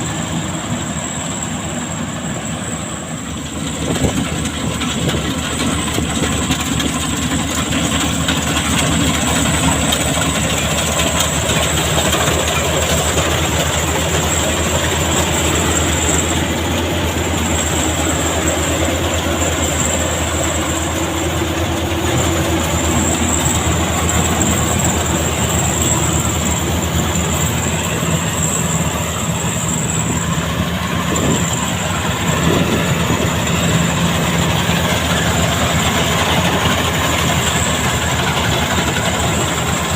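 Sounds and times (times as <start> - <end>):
high-pitched whine: 0.0 - 39.9
old engine clattering: 0.0 - 39.9.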